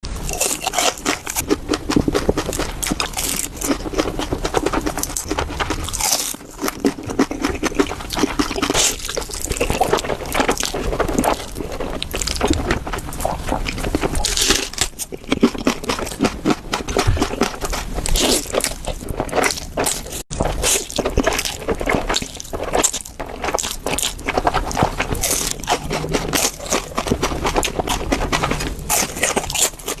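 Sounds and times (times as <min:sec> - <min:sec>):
chewing and wet mouth sounds: 0:00.1 - 0:30.0
crunching cracker sticks: 0:00.2 - 0:30.0
slurping noodles: 0:00.2 - 0:30.0.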